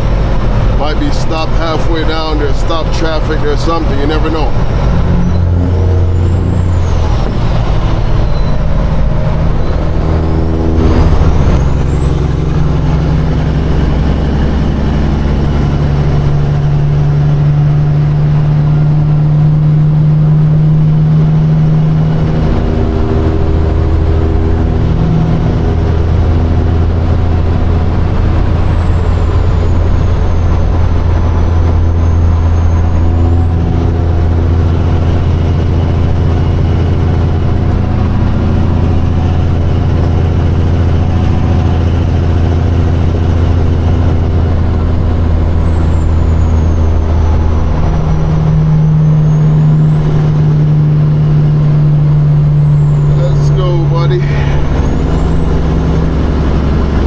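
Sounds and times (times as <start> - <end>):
truck diesel engine pulling hard: 0.0 - 57.0.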